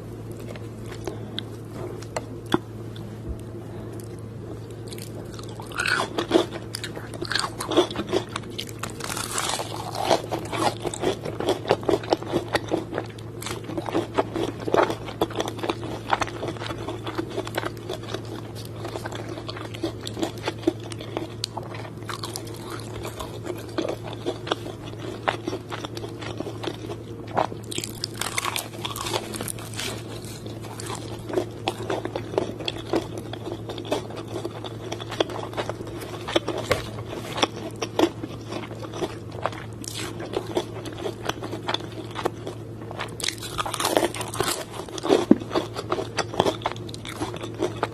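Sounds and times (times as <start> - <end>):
crunching fried chicken: 0.0 - 47.9
steady low hum: 0.0 - 47.9.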